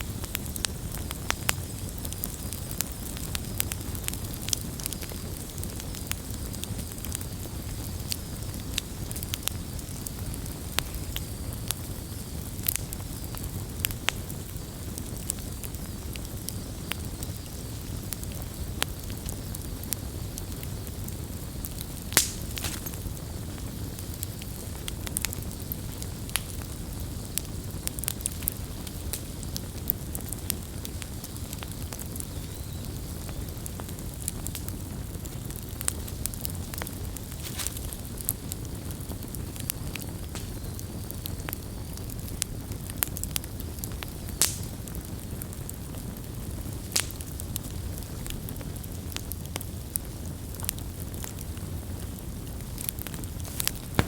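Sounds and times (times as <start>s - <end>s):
campfire rumbling: 0.0s - 54.0s
wood crackling and popping: 0.0s - 54.0s.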